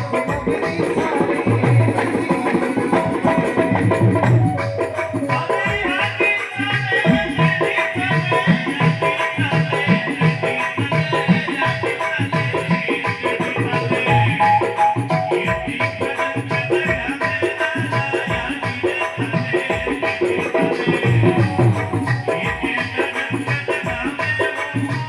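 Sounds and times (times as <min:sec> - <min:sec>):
drum beat: 0:00.0 - 0:25.0.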